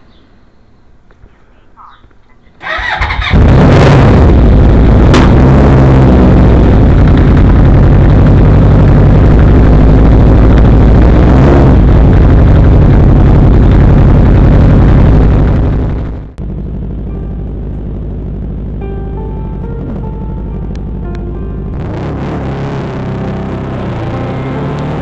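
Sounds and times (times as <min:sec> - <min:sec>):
motorcycle engine starting and running: 0:02.6 - 0:25.0.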